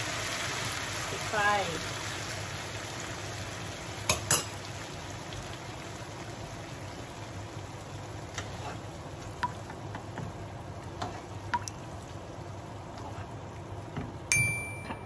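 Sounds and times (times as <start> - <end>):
food sizzling in a frying pan: 0.0 - 14.4.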